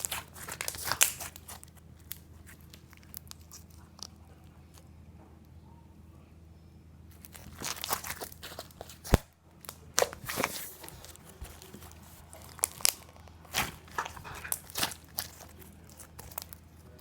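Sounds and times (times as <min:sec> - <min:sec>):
crunchy slime crackling and popping: 0:00.0 - 0:04.8, 0:07.1 - 0:17.0.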